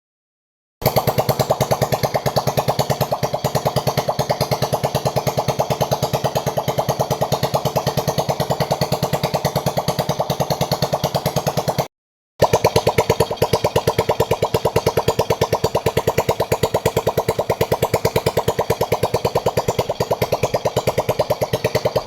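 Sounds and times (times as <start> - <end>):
motorbike engine idling: 0.8 - 22.0.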